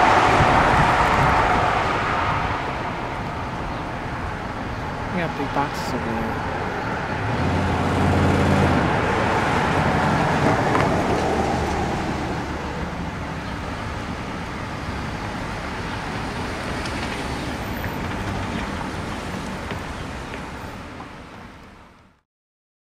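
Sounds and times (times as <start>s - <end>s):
vehicle engine passing close: 0.0s - 19.7s
passing traffic: 0.0s - 22.2s.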